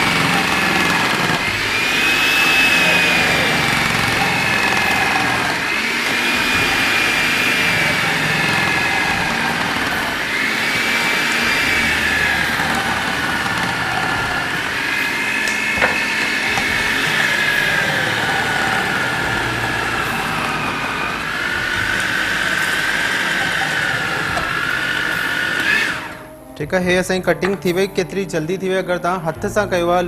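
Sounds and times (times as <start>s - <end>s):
food processor motor whining: 0.0s - 26.4s.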